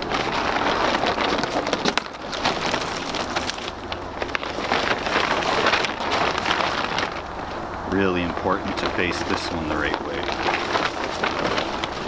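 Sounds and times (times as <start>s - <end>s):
tarp rustling and crinkling: 0.0s - 12.0s.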